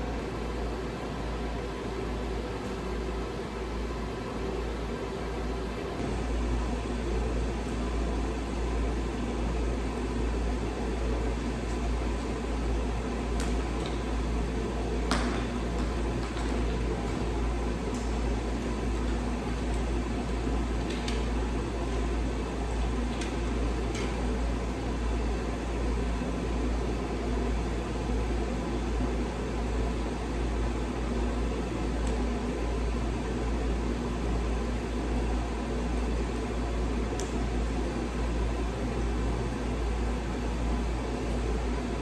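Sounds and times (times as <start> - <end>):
machine humming and hissing: 0.0 - 42.0.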